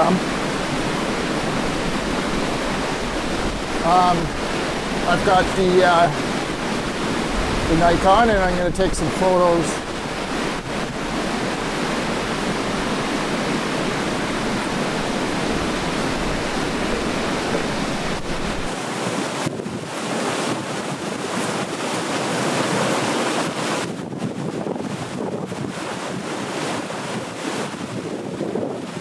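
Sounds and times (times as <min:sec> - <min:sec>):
waterfall rushing: 0:00.0 - 0:24.7, 0:25.7 - 0:29.0
wind rumble on microphone: 0:00.0 - 0:29.0.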